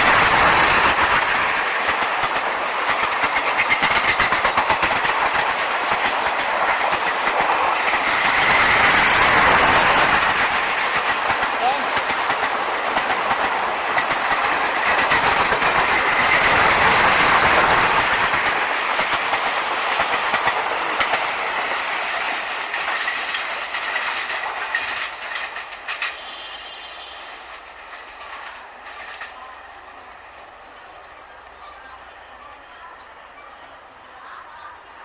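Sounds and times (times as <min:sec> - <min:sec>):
train wheels clattering over rail joints: 0:00.0 - 0:30.2.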